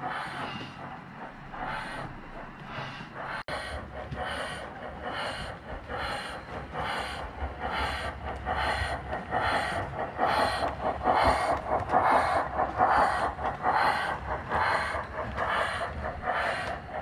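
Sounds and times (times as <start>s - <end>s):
model steam locomotive chuffs: 0.0s - 17.0s
wheels rumbling on rails: 0.0s - 17.0s.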